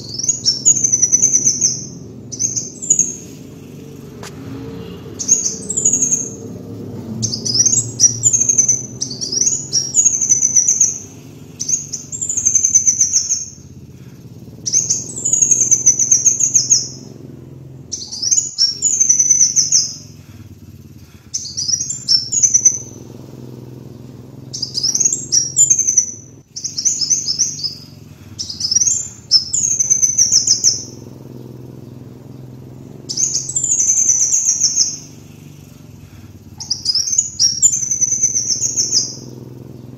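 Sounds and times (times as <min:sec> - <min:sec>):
faint low hum: 0:00.0 - 0:39.9
sunbird singing: 0:00.0 - 0:39.9.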